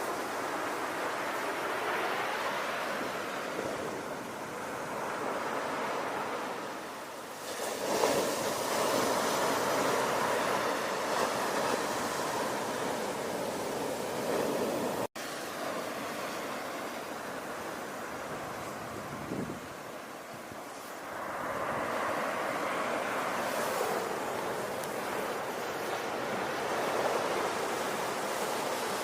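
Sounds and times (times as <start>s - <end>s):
ocean waves rushing: 0.0s - 29.0s.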